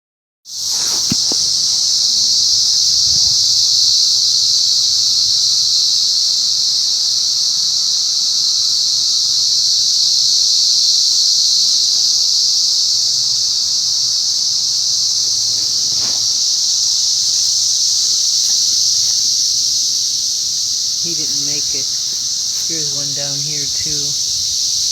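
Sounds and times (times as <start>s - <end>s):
cicadas buzzing: 0.5s - 24.9s.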